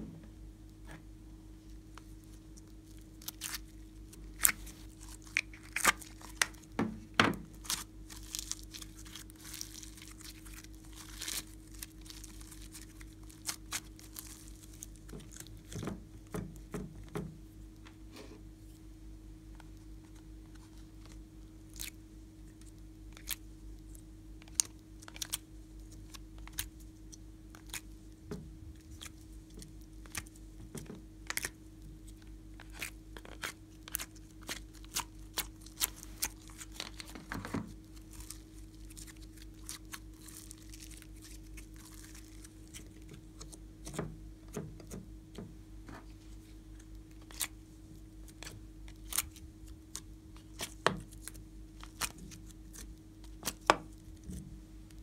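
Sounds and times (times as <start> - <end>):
faint hum: 0.0 - 55.0.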